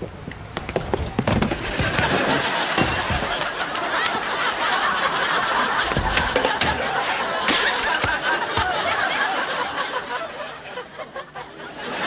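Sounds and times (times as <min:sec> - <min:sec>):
studio audience laughing: 0:01.6 - 0:12.0.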